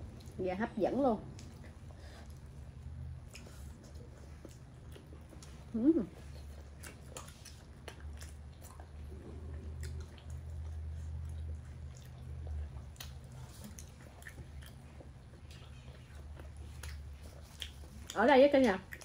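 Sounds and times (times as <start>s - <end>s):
low steady hum: 0.0s - 19.0s
people chewing: 1.2s - 19.0s.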